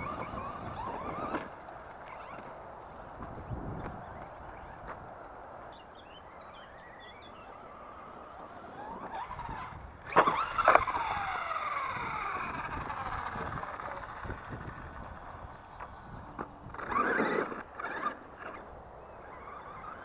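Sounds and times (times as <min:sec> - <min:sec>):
electric motor whining: 0:00.0 - 0:05.0, 0:07.2 - 0:20.0.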